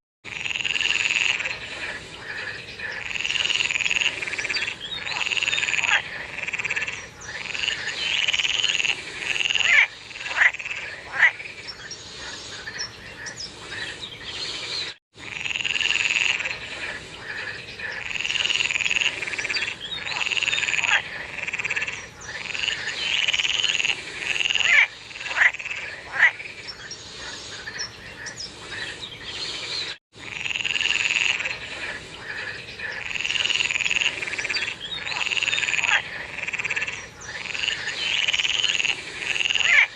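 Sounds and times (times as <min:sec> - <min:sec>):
frogs croaking: 0:00.2 - 0:14.6, 0:15.2 - 0:29.6, 0:30.2 - 0:39.9.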